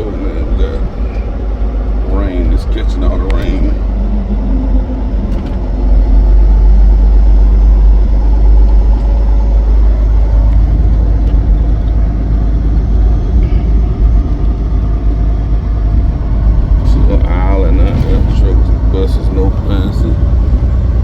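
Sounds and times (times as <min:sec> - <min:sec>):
road noise: 0:00.0 - 0:21.0
truck engine rumbling: 0:00.0 - 0:21.0.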